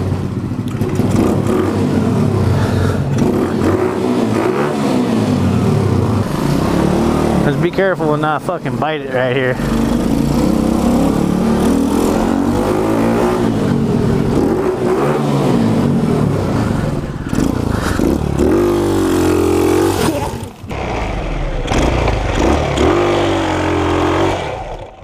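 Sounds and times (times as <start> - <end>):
small motorbike engine revving: 0.7 - 7.7, 9.5 - 25.0.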